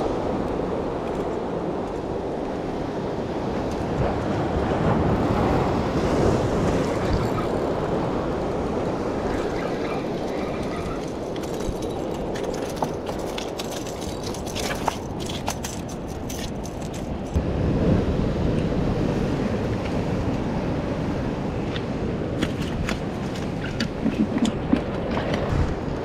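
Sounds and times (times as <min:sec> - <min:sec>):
wind buffeting microphone: 0:00.0 - 0:26.0
waves washing against rocks: 0:02.9 - 0:26.0.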